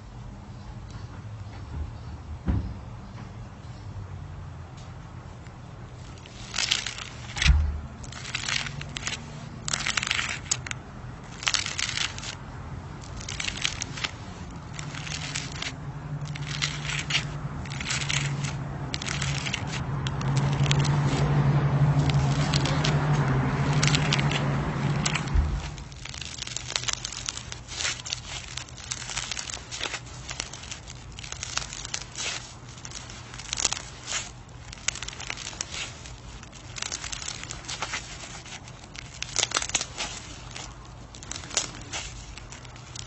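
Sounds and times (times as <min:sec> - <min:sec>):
steady low hum: 0:00.0 - 0:43.0
crunchy slime crackling: 0:06.0 - 0:43.0.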